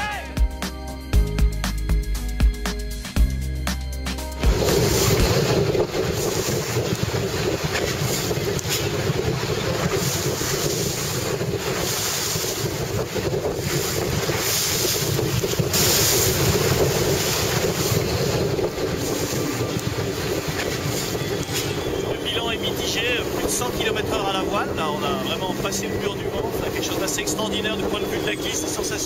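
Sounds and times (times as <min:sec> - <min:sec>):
rushing water and spray: 0:04.2 - 0:29.0
wind buffeting microphone: 0:04.4 - 0:29.0.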